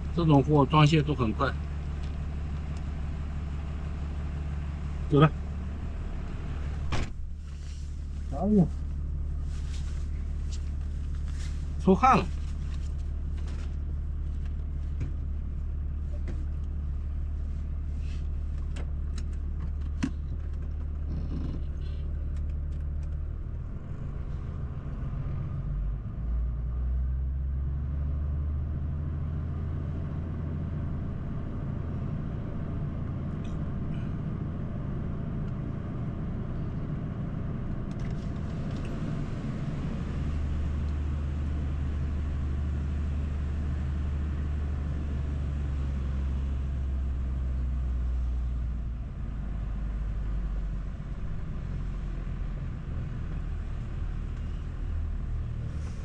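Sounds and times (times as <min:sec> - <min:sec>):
truck engine: 0:00.0 - 0:56.0.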